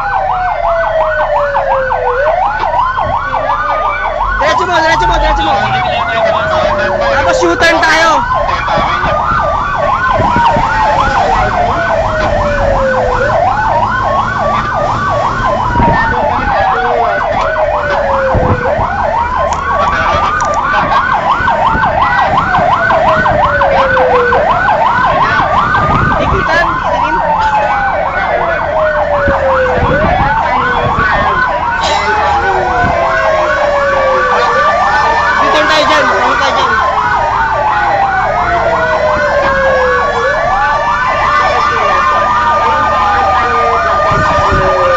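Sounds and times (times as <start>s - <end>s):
fire truck siren wailing and yelping: 0.0s - 44.9s.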